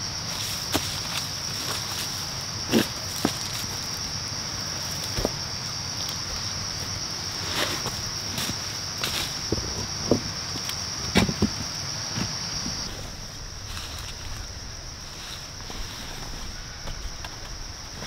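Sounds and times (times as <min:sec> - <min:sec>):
high insect drone: 0:00.0 - 0:18.0
footsteps on stony ground: 0:00.6 - 0:04.0, 0:04.9 - 0:18.0.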